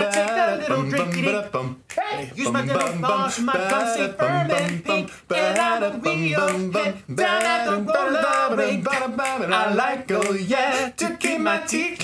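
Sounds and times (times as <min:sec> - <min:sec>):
man singing in close harmony: 0:00.0 - 0:12.0.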